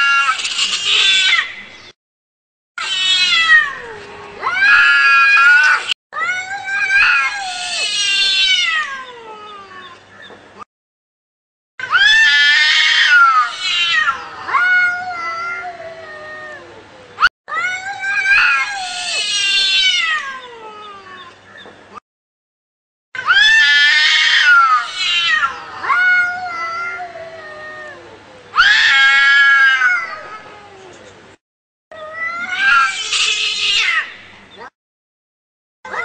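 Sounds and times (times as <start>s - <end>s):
cat yowling: 0.0s - 1.6s, 2.8s - 10.0s, 11.8s - 21.4s, 23.2s - 30.9s, 31.9s - 34.7s.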